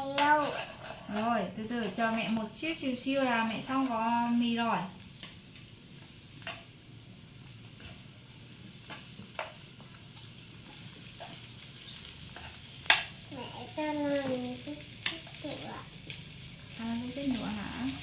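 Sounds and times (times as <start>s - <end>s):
food sizzling in frying pan: 0.0s - 18.0s.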